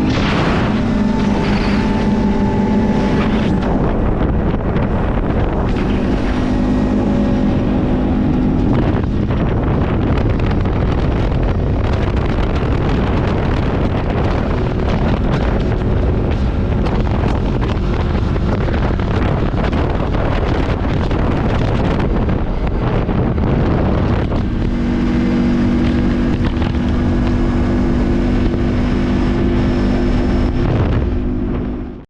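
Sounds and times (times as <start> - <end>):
quad bike engine running: 0.0 - 32.0
wind buffeting microphone: 0.0 - 32.0.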